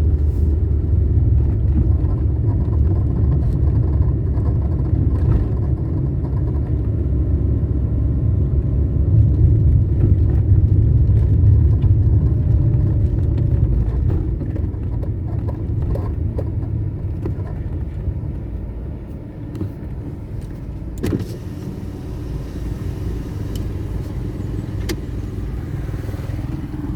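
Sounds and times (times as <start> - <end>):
car engine rumbling: 0.0 - 26.9.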